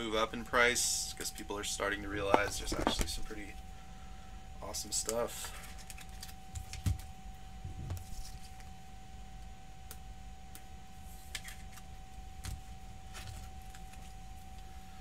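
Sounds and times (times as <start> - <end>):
faint steady whine: 0.0 - 15.0
low electrical hum: 0.0 - 15.0.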